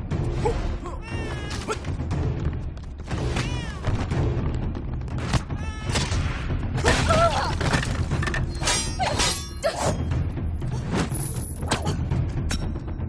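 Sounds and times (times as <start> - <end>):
low background music: 0.0 - 13.0.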